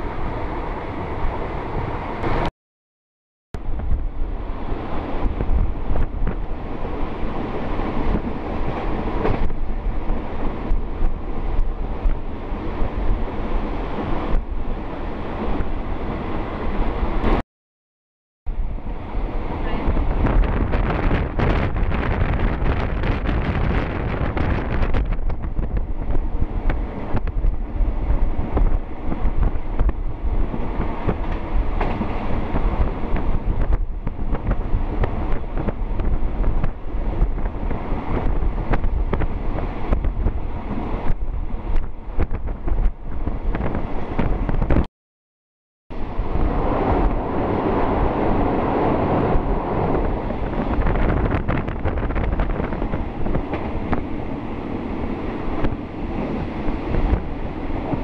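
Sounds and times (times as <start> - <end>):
train rumble inside carriage: 0.0 - 2.5, 3.6 - 17.4, 18.5 - 44.9, 45.9 - 58.0
wind buffeting the microphone: 3.6 - 17.4, 18.5 - 44.9, 45.9 - 58.0.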